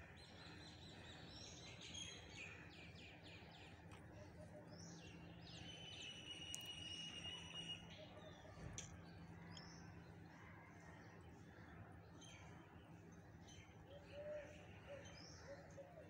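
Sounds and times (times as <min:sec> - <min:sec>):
birdsong with whistles and chirps: 0:00.0 - 0:10.3, 0:12.1 - 0:16.0
low background hum: 0:00.0 - 0:16.0.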